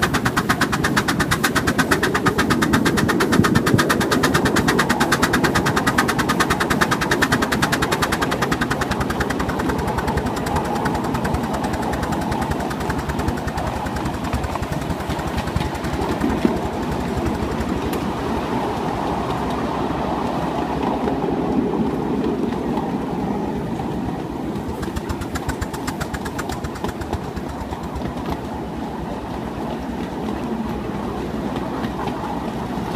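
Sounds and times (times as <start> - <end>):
miniature steam locomotive running: 0.0 - 32.9.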